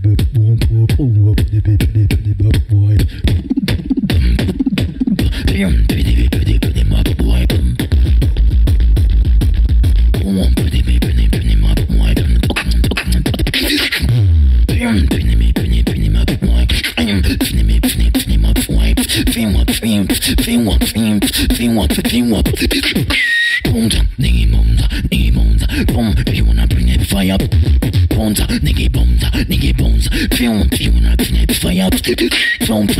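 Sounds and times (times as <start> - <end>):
beatboxing into a microphone: 0.0 - 32.9
deep vocal bass: 0.0 - 32.9.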